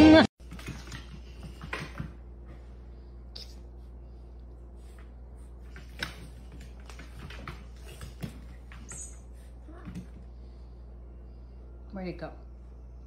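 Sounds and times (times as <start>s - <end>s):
steady low hum: 0.4s - 13.0s.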